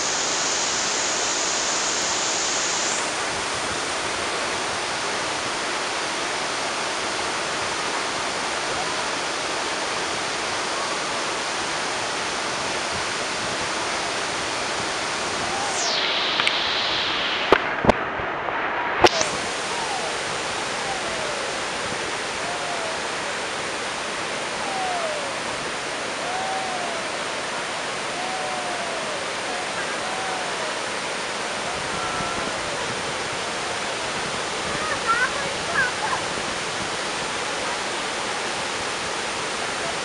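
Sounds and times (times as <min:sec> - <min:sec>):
waterfall rushing: 0:00.0 - 0:18.0, 0:18.6 - 0:40.0.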